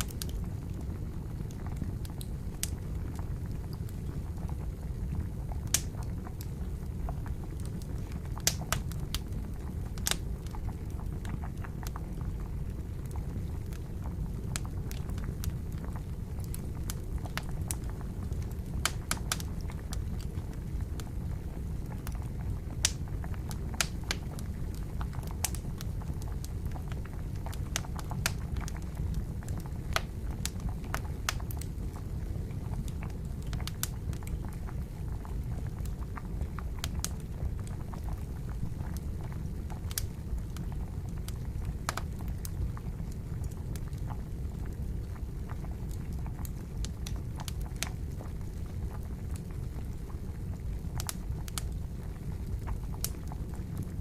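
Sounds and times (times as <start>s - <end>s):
campfire wood crackling: 0.0s - 54.0s
water boiling: 0.0s - 54.0s.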